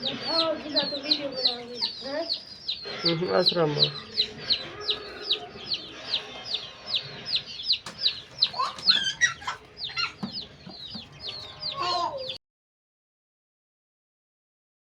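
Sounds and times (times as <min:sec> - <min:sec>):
chicks peeping: 0:00.0 - 0:12.4
lower bird calls: 0:00.0 - 0:12.4.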